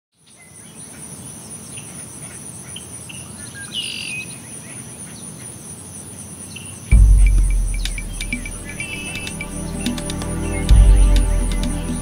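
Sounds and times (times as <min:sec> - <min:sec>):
birds chirping: 0:00.3 - 0:12.0
insects chirring: 0:00.4 - 0:12.0.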